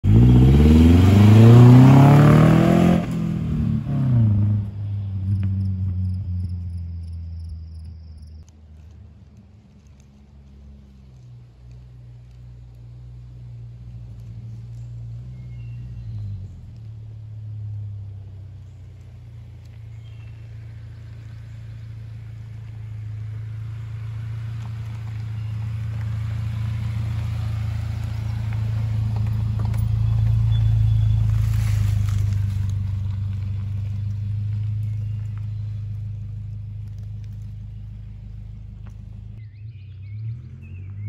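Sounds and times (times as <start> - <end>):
car driving past on dirt: 0.0 - 41.0.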